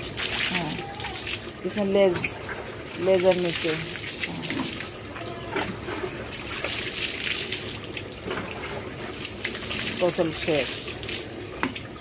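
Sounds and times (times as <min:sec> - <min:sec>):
water splashing on concrete floor: 0:00.0 - 0:12.0.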